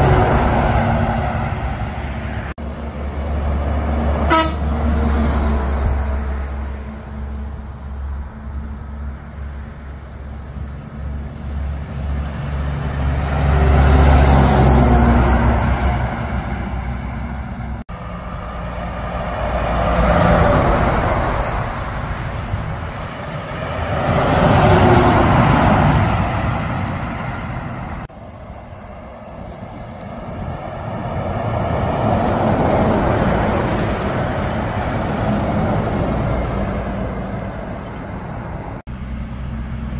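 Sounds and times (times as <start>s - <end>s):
heavy trucks passing by: 0.0s - 39.9s.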